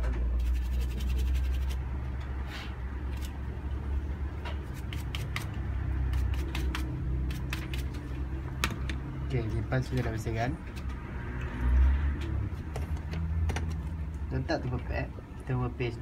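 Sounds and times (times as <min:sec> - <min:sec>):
scratching and scraping fan: 0:00.0 - 0:14.4.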